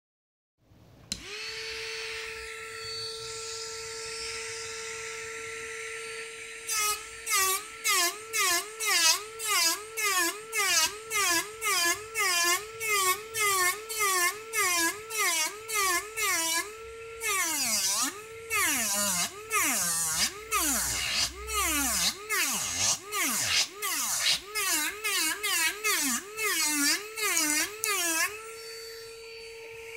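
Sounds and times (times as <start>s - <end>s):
nail drill motor whining: 1.1s - 29.9s
drill grinding against suede: 1.2s - 29.9s.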